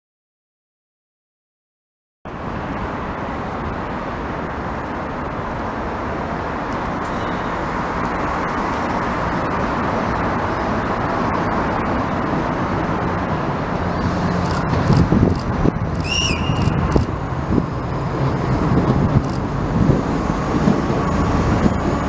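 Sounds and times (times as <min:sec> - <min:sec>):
road traffic noise: 0:02.3 - 0:22.0.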